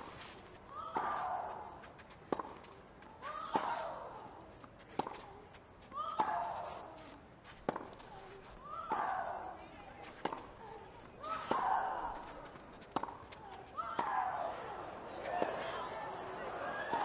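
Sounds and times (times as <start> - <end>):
racket hitting tennis ball: 0.0 - 4.2, 4.8 - 5.3, 6.0 - 17.0.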